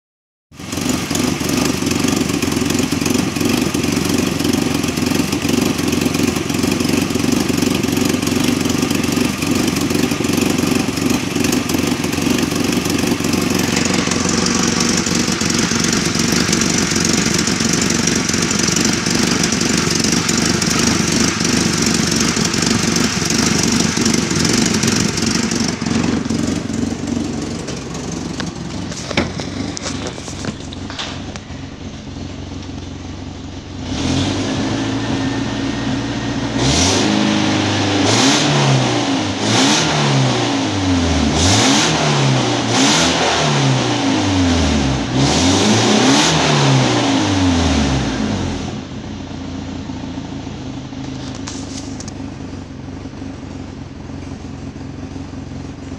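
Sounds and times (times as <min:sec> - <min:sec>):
car engine idling: 0:00.6 - 0:38.4, 0:47.3 - 0:55.9.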